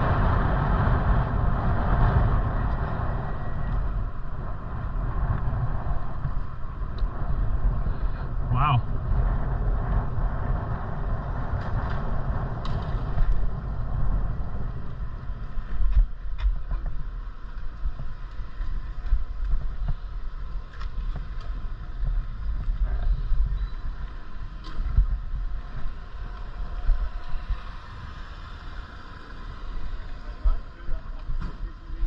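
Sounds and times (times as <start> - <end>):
road travel rumble: 0.0 - 32.0
wind buffeting microphone: 0.0 - 32.0.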